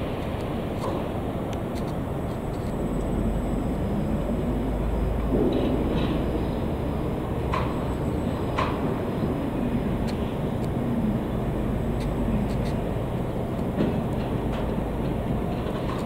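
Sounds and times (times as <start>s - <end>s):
faint wavering hum: 0.0s - 15.6s
freight wagons rumbling: 0.0s - 16.0s.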